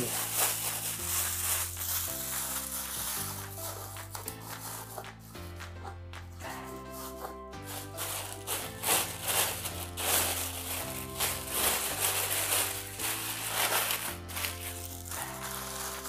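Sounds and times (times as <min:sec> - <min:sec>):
plastic bag crinkling: 0:00.0 - 0:05.1, 0:07.6 - 0:16.0
background music with held chords: 0:00.0 - 0:16.0.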